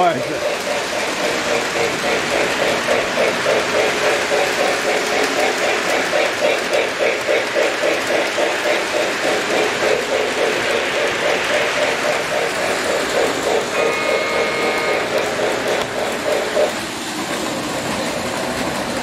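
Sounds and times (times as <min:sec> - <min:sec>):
model train motors whirring: 0:00.0 - 0:19.0
wheels clicking over rail joints: 0:00.0 - 0:19.0.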